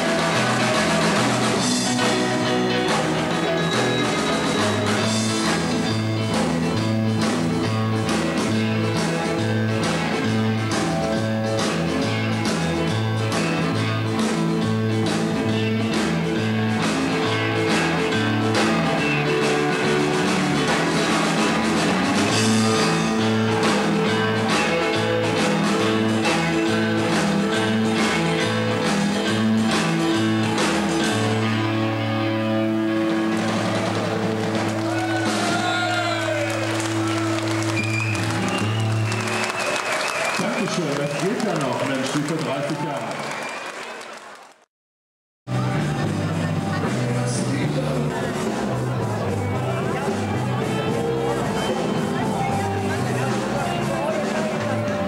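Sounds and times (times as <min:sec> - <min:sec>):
rock and roll dance music: 0:00.0 - 0:43.3, 0:45.5 - 0:55.0.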